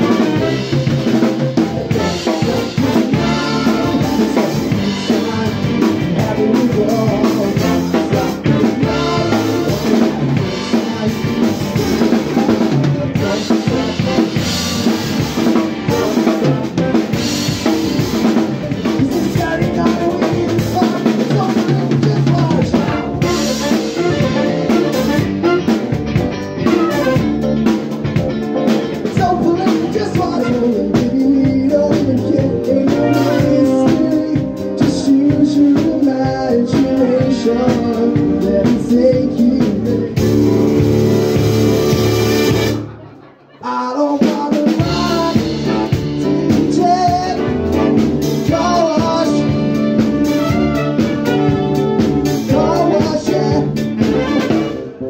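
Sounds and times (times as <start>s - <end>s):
drum kit: 0.0s - 43.2s, 44.1s - 55.0s
live pop band playing: 0.0s - 55.0s.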